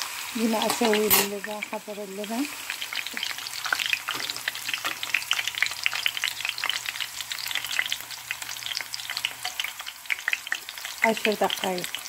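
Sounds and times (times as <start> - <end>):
oil sizzling and popping in pan: 0.0 - 12.0.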